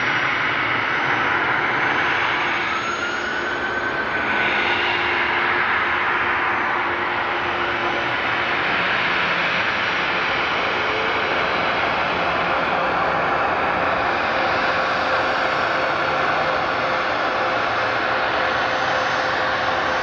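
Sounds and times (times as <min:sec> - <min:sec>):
jet engines whining: 0:00.0 - 0:20.0.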